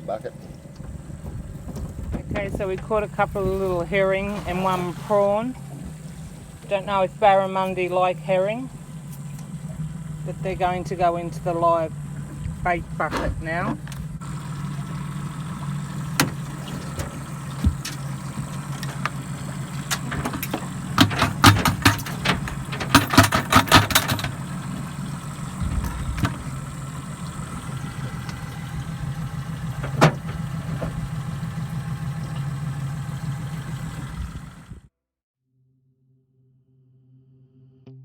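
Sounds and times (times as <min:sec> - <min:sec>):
rattling clatter: 0:00.0 - 0:34.7
engine idling: 0:00.0 - 0:34.9.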